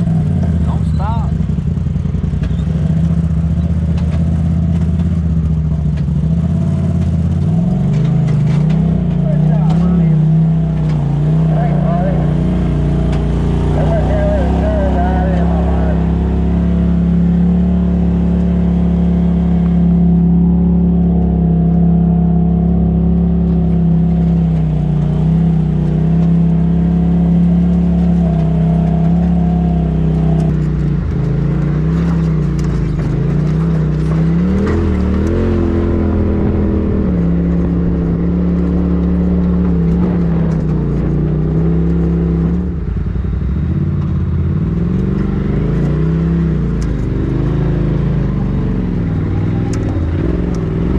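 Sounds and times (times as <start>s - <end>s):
off-road vehicle engine revving: 0.0s - 50.9s.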